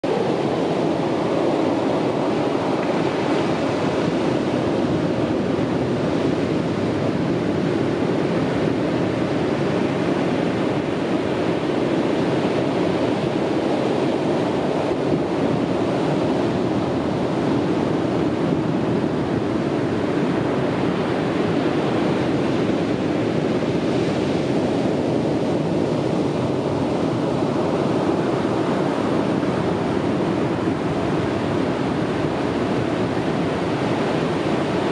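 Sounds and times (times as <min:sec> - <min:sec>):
sea waves breaking on beach: 0:00.0 - 0:34.9.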